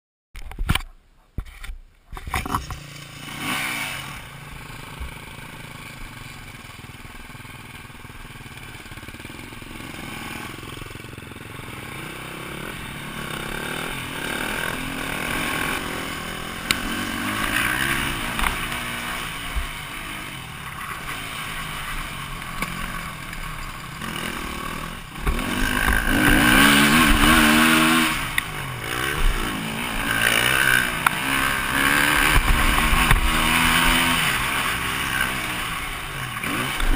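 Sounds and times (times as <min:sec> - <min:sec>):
dirt bike engine revving: 0:02.4 - 0:36.9.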